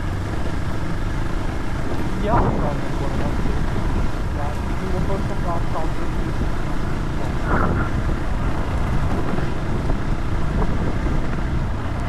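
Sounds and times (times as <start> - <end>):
vehicle engine running: 0.0 - 12.0
wind buffeting microphone: 0.0 - 12.0.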